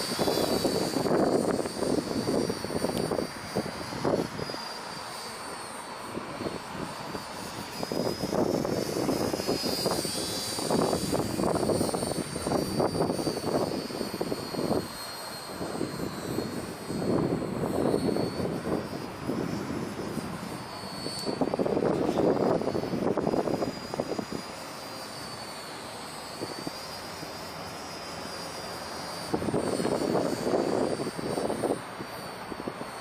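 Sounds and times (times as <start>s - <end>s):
wind buffeting microphone: 0.0s - 4.7s, 6.0s - 24.5s, 29.2s - 33.0s
model plane motors whining: 0.0s - 33.0s.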